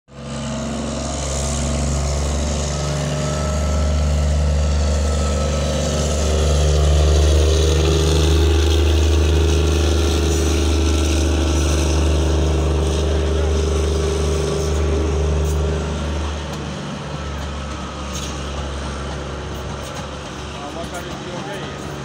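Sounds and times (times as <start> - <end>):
diesel locomotive engine droning: 0.1 - 22.0.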